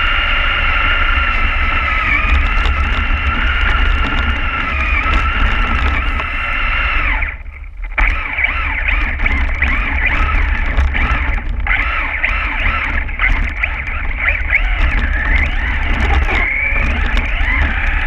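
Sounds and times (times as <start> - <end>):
low rumble: 0.0 - 18.0
toy truck motor whining: 0.0 - 18.0.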